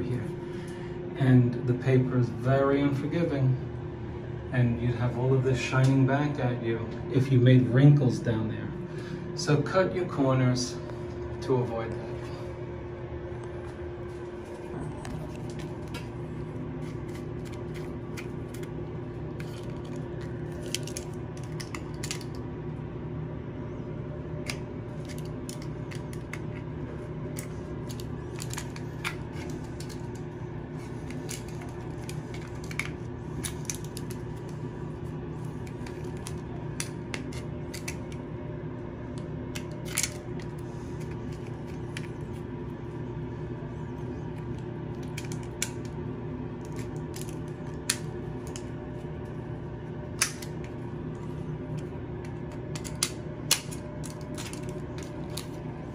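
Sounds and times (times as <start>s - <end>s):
low hum: 0.0s - 55.9s.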